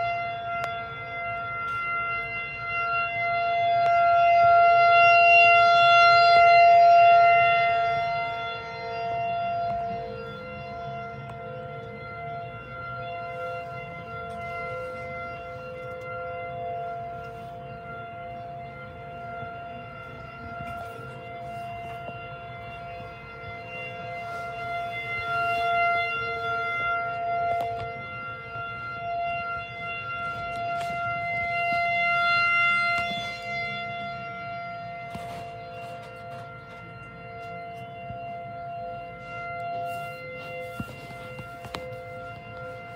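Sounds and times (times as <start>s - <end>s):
warning siren steady tone: 0.0s - 42.9s.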